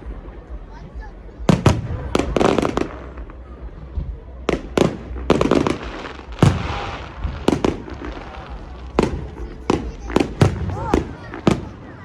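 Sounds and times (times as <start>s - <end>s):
fireworks bangs: 1.5s - 12.0s
fireworks crackling: 1.5s - 12.0s.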